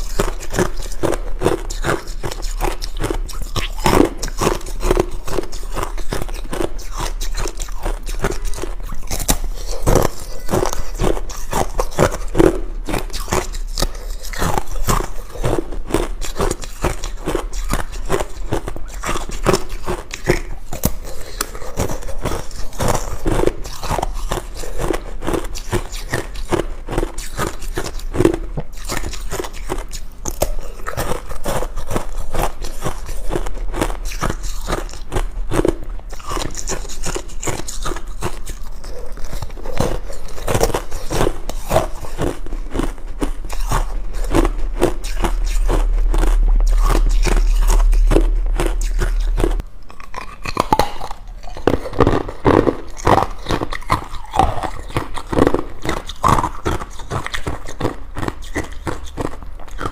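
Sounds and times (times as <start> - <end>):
ice being chewed: 0.0 - 59.9
low steady hum: 0.0 - 59.9.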